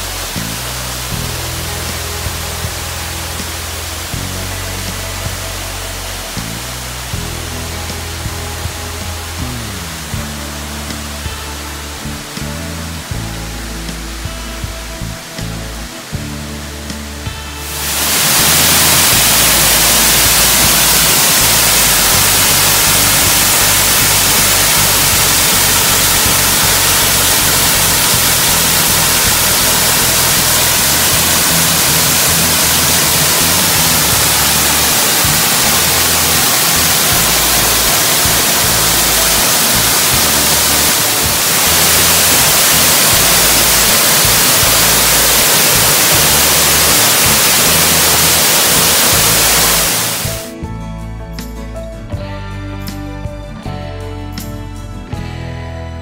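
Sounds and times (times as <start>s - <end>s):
waterfall rushing: 0.0s - 14.2s, 17.6s - 50.5s
music: 0.0s - 56.0s.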